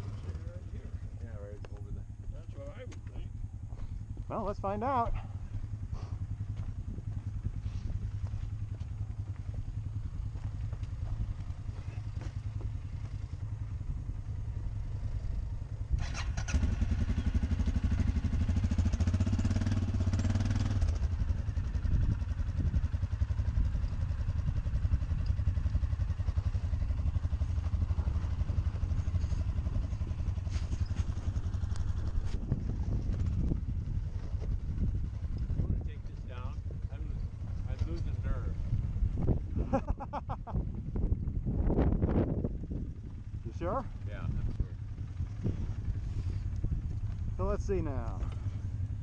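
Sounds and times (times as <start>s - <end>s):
atv engines rumbling: 0.0s - 49.0s.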